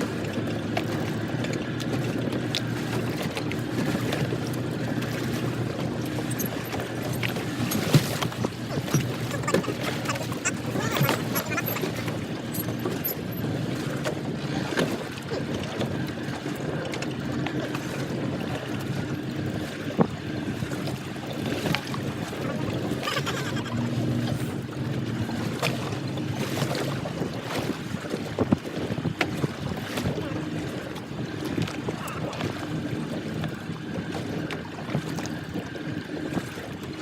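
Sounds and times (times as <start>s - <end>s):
boat engine humming: 0.0s - 37.0s
wind buffeting microphone: 0.0s - 37.0s.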